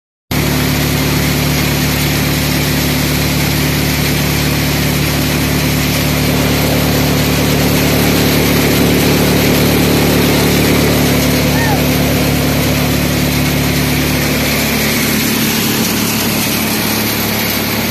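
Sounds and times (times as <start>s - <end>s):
thresher machine drone: 0.3s - 17.9s.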